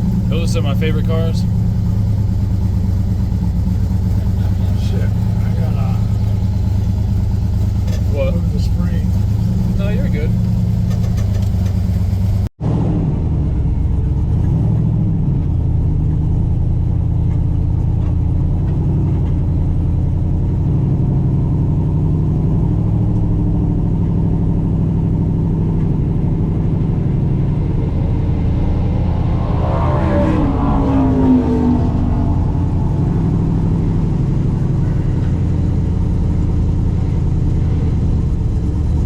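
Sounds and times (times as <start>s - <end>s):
engine idling with low rumble: 0.0s - 29.2s, 31.7s - 39.0s.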